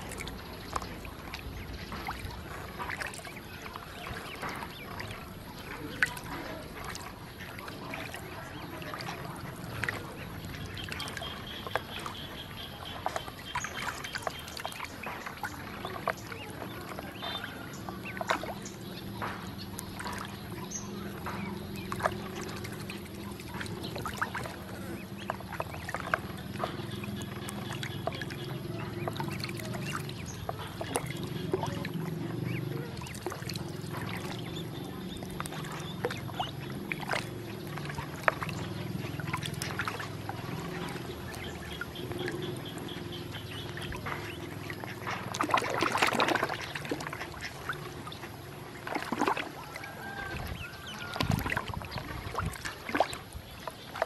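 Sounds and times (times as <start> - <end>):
ducklings splashing in water: 0.0 - 54.0.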